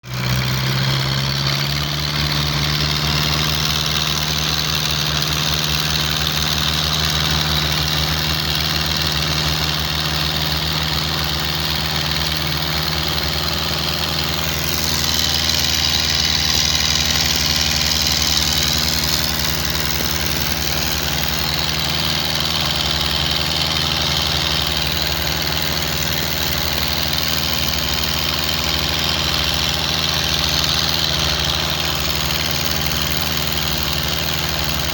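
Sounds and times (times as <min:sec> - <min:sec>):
boat engine throbbing: 0:00.0 - 0:34.9.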